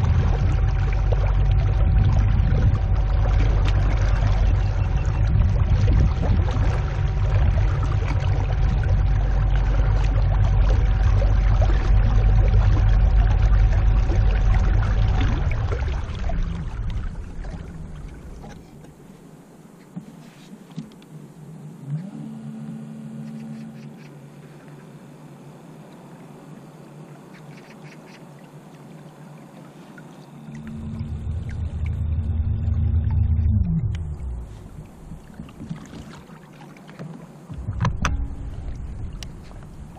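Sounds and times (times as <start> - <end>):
water splashing against hull: 0.0 - 21.2, 23.2 - 39.9
boat engine rumble: 0.0 - 39.9
faint steady whine: 0.0 - 39.9.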